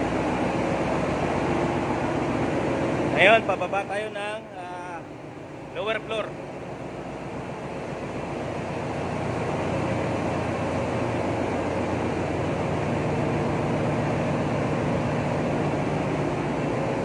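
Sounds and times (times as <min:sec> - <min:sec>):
pumps and engines running: 0:00.0 - 0:17.0.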